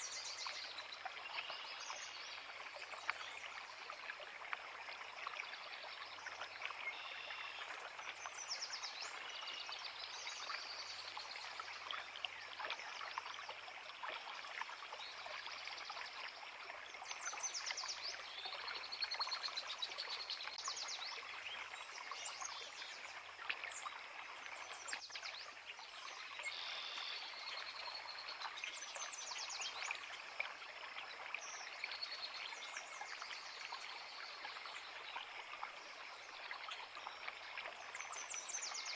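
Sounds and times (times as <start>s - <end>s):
creek water running over rocks: 0.0s - 38.9s.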